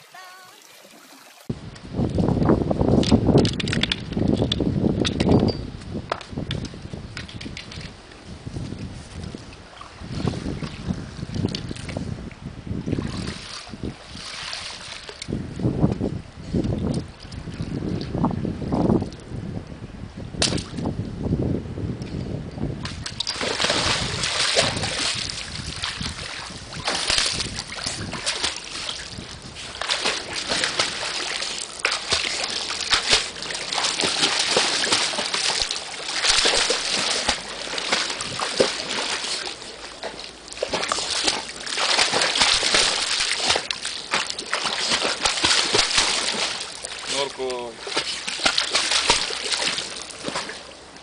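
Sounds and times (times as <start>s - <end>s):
water splashing and sloshing: 0.0s - 19.4s, 20.4s - 20.9s, 22.5s - 51.0s.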